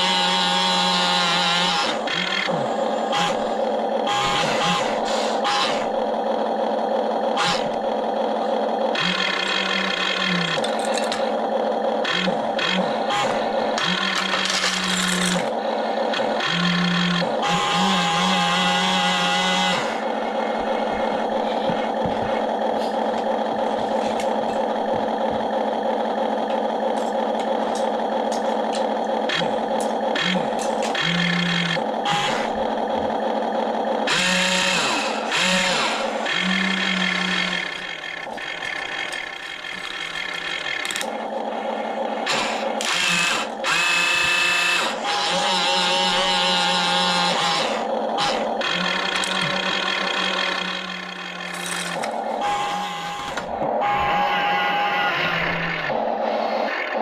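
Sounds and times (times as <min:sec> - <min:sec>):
steady mechanical hum: 0:00.0 - 0:57.0
toy excavator motors whining: 0:00.0 - 0:57.0.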